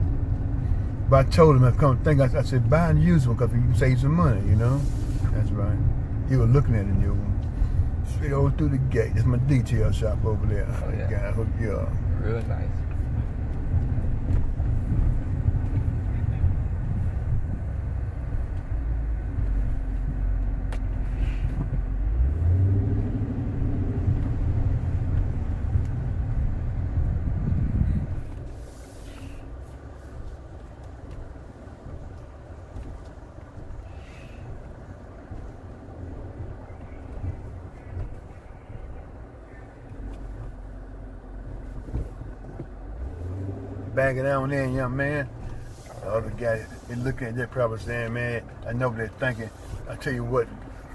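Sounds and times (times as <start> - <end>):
car exhaust low rumble: 0.0 - 50.9.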